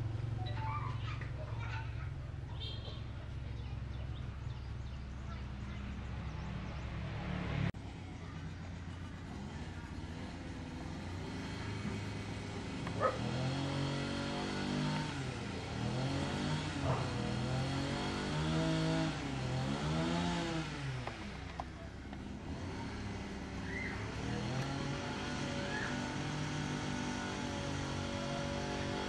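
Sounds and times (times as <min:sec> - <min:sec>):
vehicle engines revving: 0:00.0 - 0:29.0.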